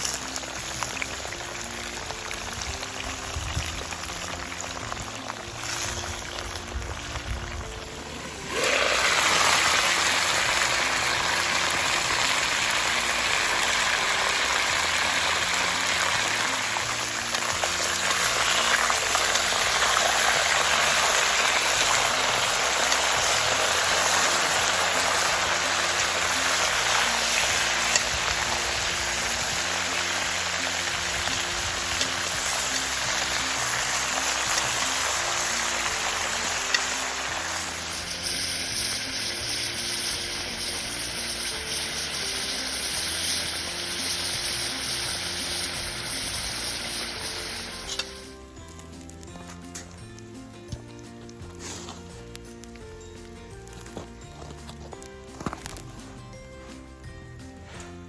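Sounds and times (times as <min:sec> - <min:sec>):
food sizzling in a pot: 0:00.0 - 0:49.2
background music: 0:00.0 - 0:58.0.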